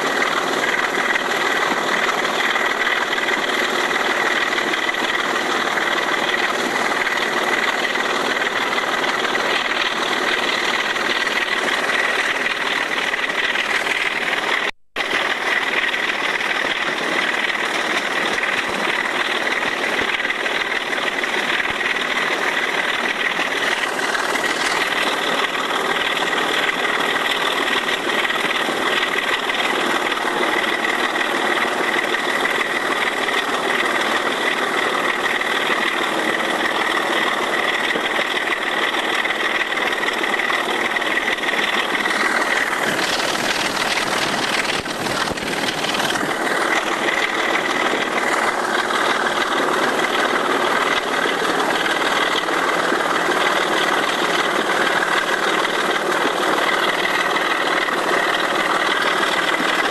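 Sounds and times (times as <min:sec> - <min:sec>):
diesel locomotive engine droning: 0:00.0 - 0:59.9.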